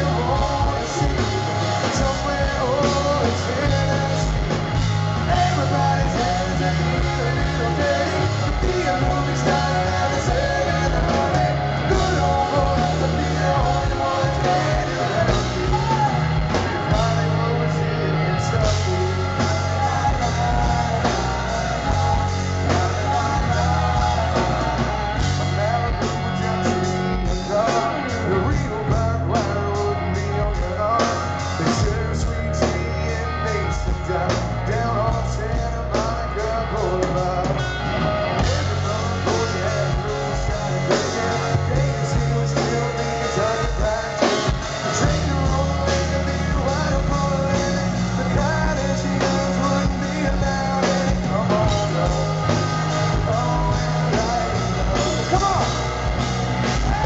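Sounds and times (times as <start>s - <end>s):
bass: 0.0s - 57.0s
distorted electric guitars: 0.0s - 57.0s
drums: 0.0s - 57.0s
man singing lead vocal: 0.0s - 57.0s.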